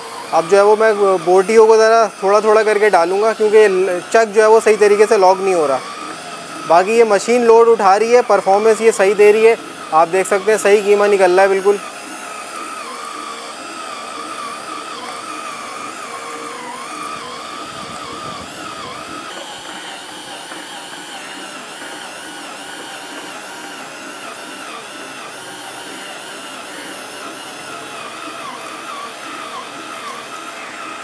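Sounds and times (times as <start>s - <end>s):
drill motor whine: 0.0s - 31.0s.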